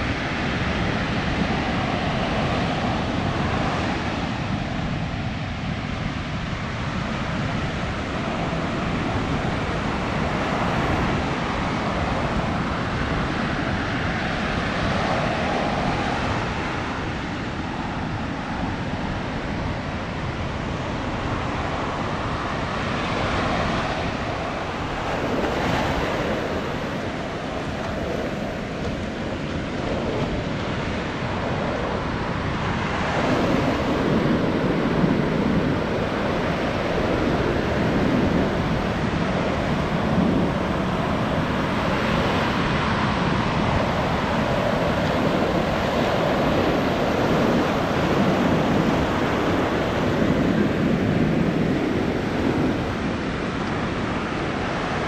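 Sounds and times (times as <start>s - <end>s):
ocean surf breaking on shore: 0.0s - 55.0s.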